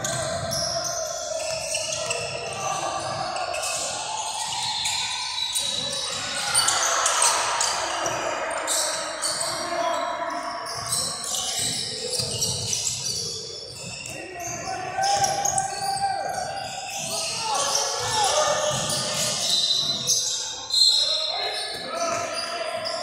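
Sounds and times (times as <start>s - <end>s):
voices in a large gym: 0.0s - 23.0s.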